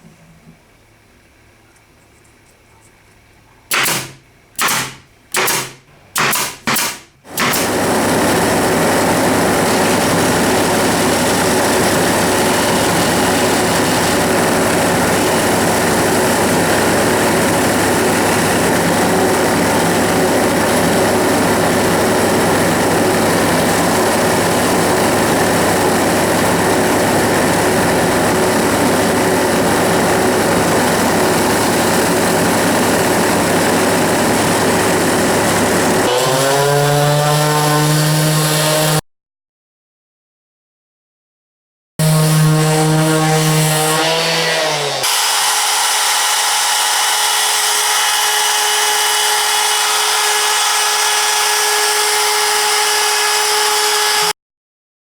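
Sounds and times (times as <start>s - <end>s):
workshop power tool running: 3.7s - 39.0s, 42.0s - 54.4s.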